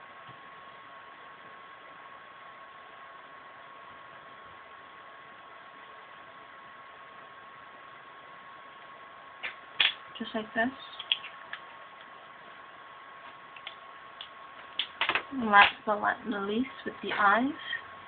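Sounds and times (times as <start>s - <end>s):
background hiss: 0.0s - 18.0s
faint high whine: 0.0s - 18.0s.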